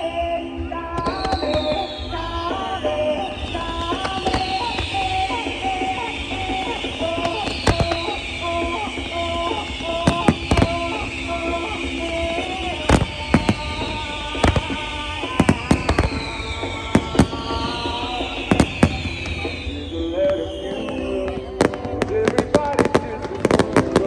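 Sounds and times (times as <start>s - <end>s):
fireworks bangs and crackles: 0.0s - 24.0s
fireworks falling whistles: 0.0s - 24.0s
music: 0.0s - 24.0s.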